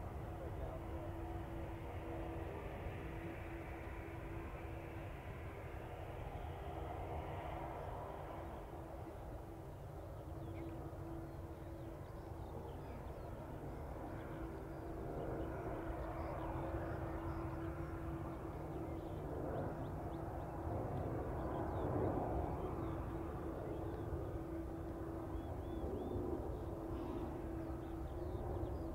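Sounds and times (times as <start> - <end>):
jet engines running at low power: 0.0 - 28.9.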